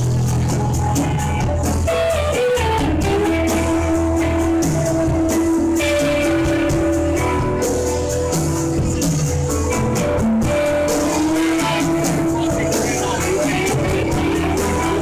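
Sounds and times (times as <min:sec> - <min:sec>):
bass guitar: 0:00.0 - 0:15.0
drum kit: 0:00.0 - 0:15.0
electric guitars playing: 0:00.0 - 0:15.0.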